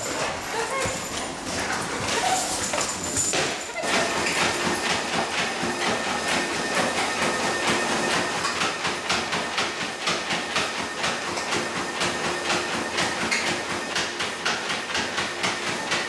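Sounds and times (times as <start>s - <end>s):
dog paws trotting on treadmill: 0.0s - 16.0s
treadmill motor hum: 0.0s - 16.0s.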